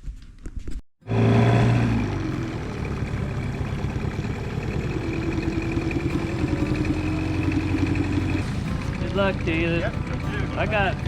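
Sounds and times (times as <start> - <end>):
outboard motor running: 1.0 - 11.0.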